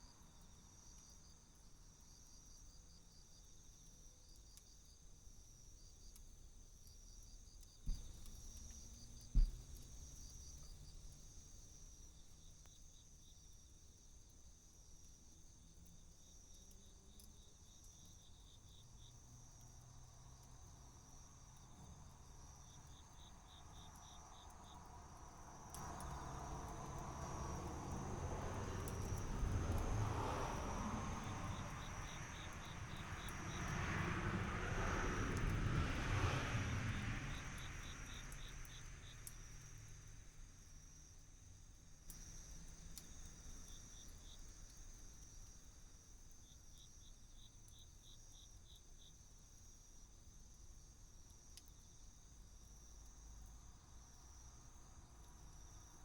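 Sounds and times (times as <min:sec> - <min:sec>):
crickets trilling and chirping: 0:00.0 - 0:56.0.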